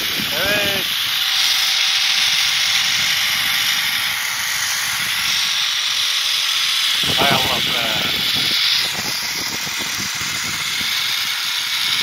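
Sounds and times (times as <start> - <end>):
faint steady whine: 0.0 - 12.0
zipline trolley hissing on cable: 0.0 - 12.0.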